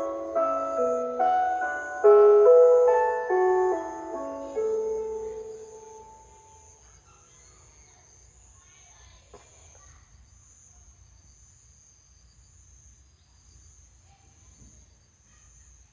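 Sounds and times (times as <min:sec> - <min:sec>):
insects trilling: 0:00.0 - 0:15.9.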